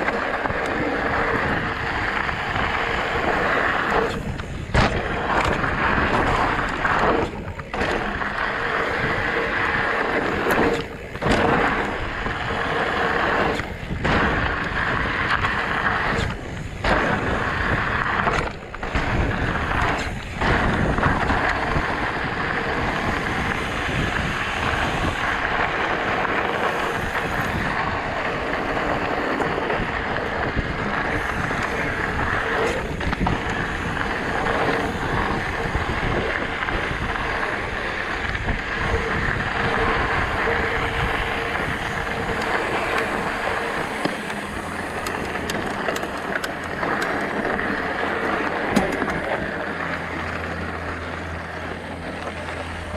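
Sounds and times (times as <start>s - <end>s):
bike rattles and knocks: 0.0s - 52.9s
bike tyres rolling over gravel: 0.0s - 52.9s
wind on microphone: 0.0s - 52.9s.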